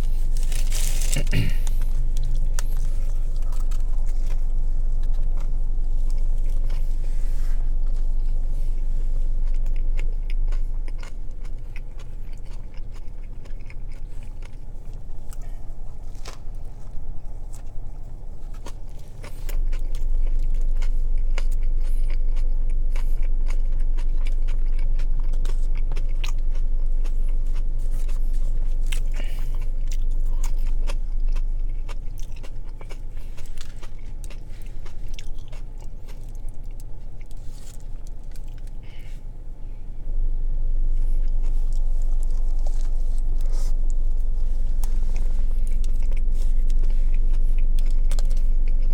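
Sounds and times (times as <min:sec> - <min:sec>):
chewing and biting: 0:00.0 - 0:39.3, 0:40.7 - 0:48.9
steady low hum: 0:00.0 - 0:48.9.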